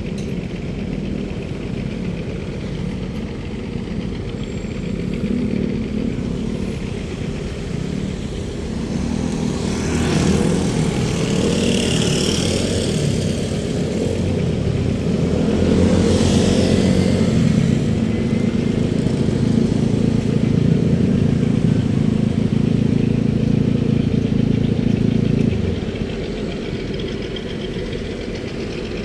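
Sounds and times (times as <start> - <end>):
vehicle engines running: 0.0 - 29.0
vehicles passing close by: 0.0 - 29.0.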